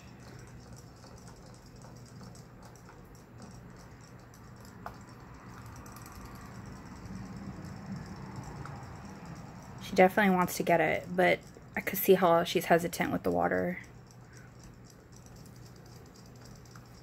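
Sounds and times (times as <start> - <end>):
robot fish toys humming: 0.0 - 17.0.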